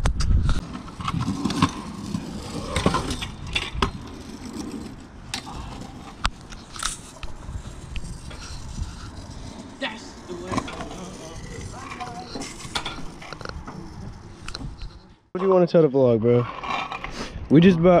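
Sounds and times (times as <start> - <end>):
kick scooter rolling on asphalt: 0.5 - 15.1.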